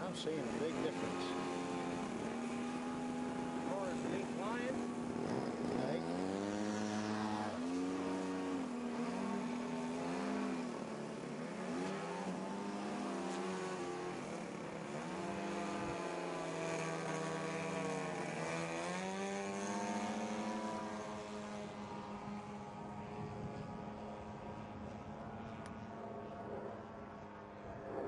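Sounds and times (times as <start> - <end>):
model plane engine: 0.0 - 28.0.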